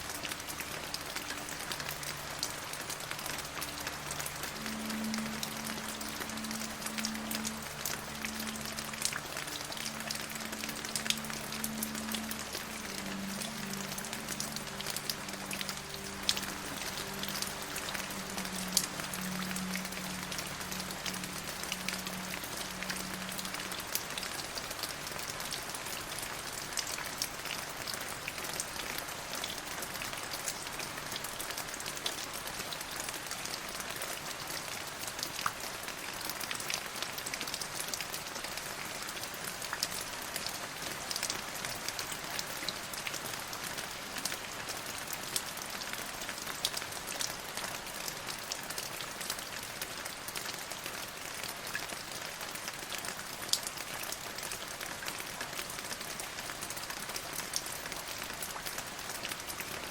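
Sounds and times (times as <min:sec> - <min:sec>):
rain drops ticking: 0:00.0 - 0:59.9.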